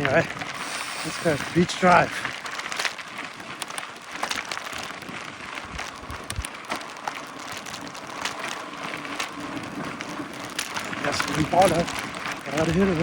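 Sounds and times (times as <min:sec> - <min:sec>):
bike tyres crunching on grit: 0:00.0 - 0:13.0
small clicks and rattles: 0:00.0 - 0:13.0.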